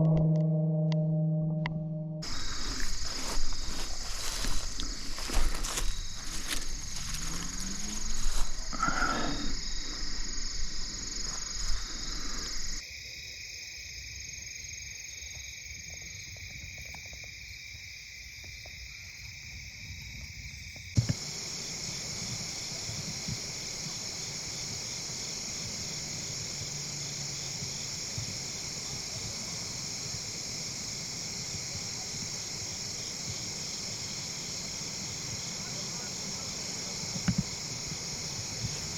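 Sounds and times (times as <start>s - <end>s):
crickets trilling: 2.2s - 38.9s.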